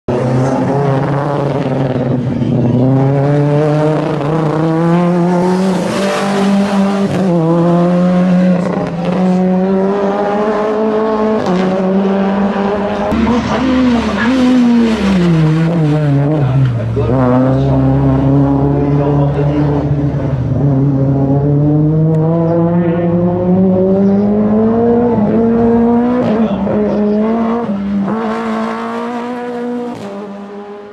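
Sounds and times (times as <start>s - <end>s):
race car engine at high revs: 0.1s - 30.9s.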